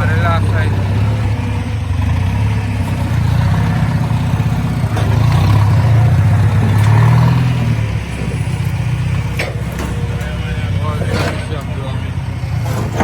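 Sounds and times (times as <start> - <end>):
large engine revving: 0.0 - 13.0.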